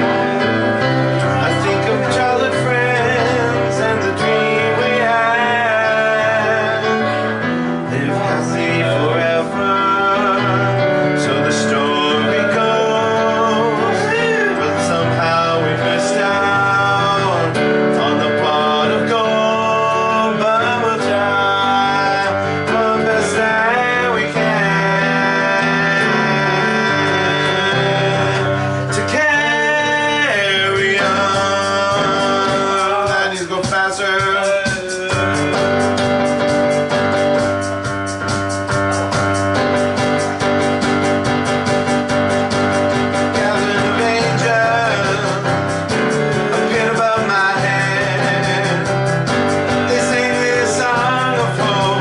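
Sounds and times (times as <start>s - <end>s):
guitar accompaniment: 0.0s - 52.0s
man singing: 0.0s - 52.0s.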